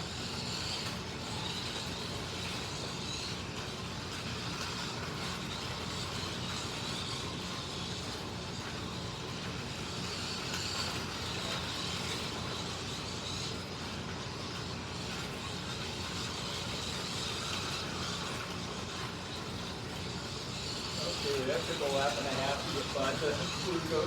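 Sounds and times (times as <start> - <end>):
slot car electric motors whining: 0.0 - 24.0
tyres rushing on plastic track: 0.0 - 24.0.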